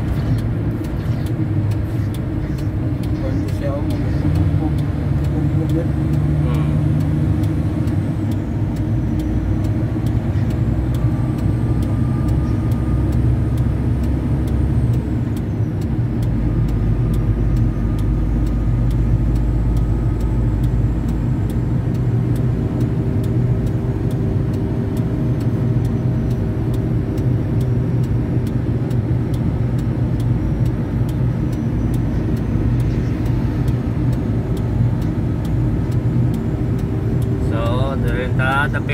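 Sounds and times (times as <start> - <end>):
diesel engine drone: 0.0 - 38.9
road noise: 0.0 - 38.9.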